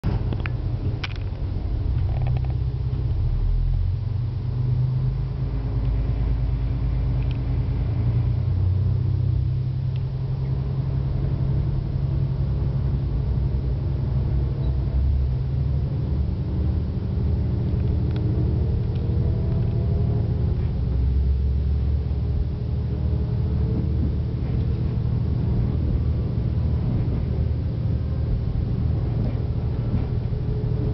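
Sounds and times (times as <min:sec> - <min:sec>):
faint rising whine: 0:00.0 - 0:30.9
railcar diesel engine rumbling: 0:00.0 - 0:30.9.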